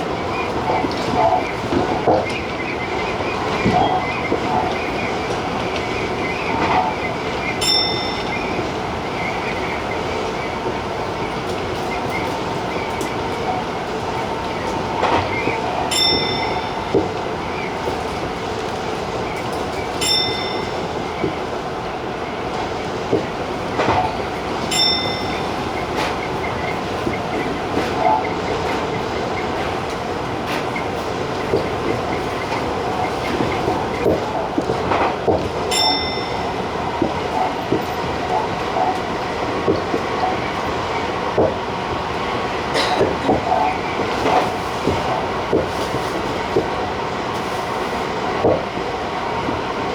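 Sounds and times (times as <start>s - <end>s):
electric train running on rails: 0.0s - 49.9s.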